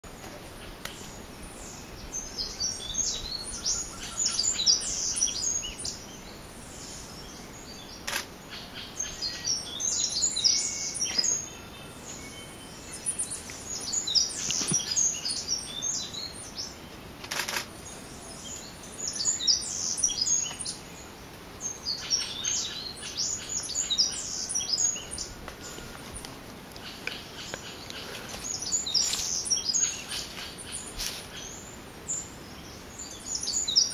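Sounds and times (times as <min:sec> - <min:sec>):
bird chirping: 0:00.6 - 0:33.9.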